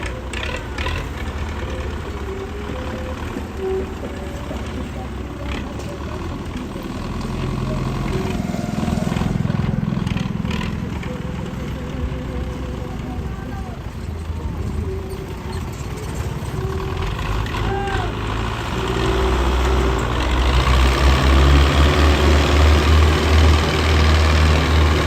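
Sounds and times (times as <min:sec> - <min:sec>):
tractor diesel engine running: 0:00.0 - 0:25.0
voices: 0:00.0 - 0:25.0.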